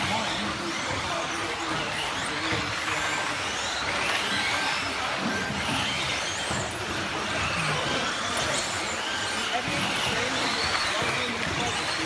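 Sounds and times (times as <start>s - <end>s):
electric motor whines: 0.0s - 12.0s
toy cars running: 0.0s - 12.0s.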